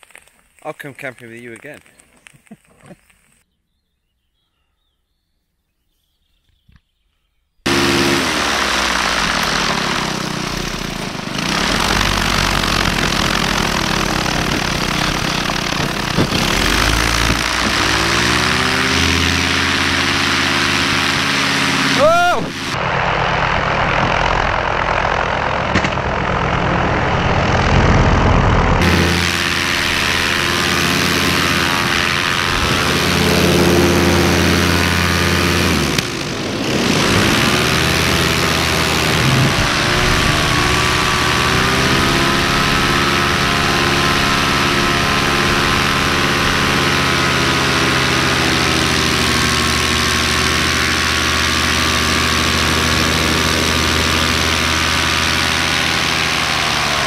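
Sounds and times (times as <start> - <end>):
paramotor engine and propeller: 7.7 - 57.0.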